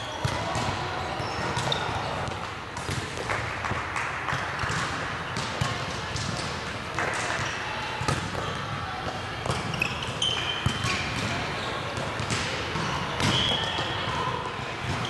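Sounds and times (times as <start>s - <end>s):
volleyballs hit and bouncing: 0.1s - 15.0s.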